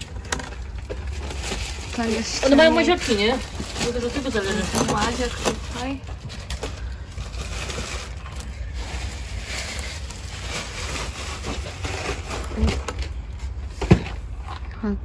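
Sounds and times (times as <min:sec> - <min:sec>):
packing material crinkling: 0:00.0 - 0:14.5
steady low rumble: 0:00.0 - 0:15.0.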